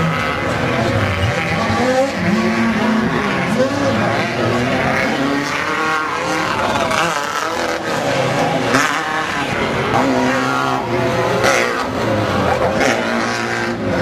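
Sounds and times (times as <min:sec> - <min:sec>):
off-road engines revving: 0:00.0 - 0:14.0.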